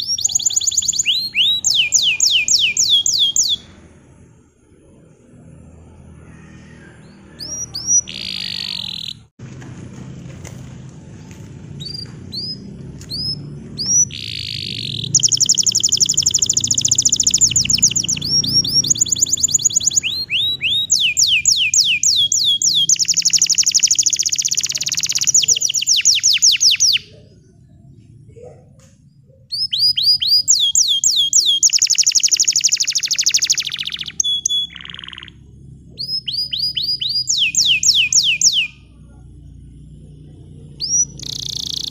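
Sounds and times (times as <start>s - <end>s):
canary singing and trilling: 0.0s - 4.2s, 7.0s - 9.3s, 11.7s - 28.6s, 29.2s - 39.1s, 39.7s - 41.9s.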